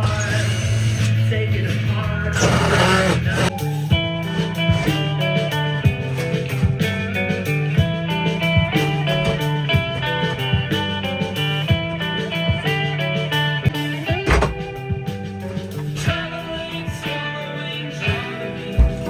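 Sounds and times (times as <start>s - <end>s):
blues guitar music with drums: 1.1s - 19.0s.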